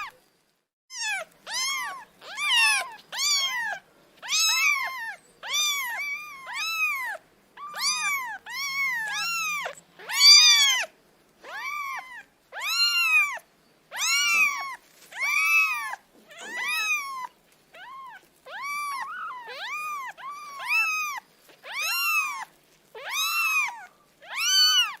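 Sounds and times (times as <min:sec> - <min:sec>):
cat meowing: 0:00.9 - 0:25.0.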